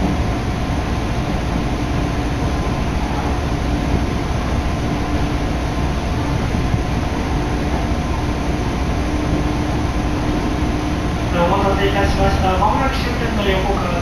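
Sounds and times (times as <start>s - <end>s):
low steady hum: 0.0s - 14.0s
train wheels on rails: 0.0s - 14.0s.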